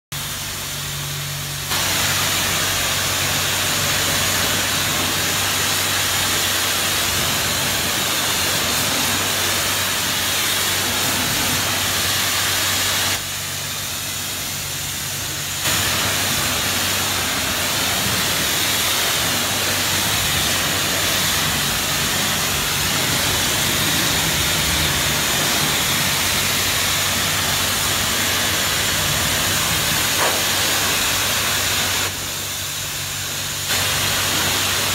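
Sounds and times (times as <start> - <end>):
pressure washer spraying water: 0.1 - 34.9.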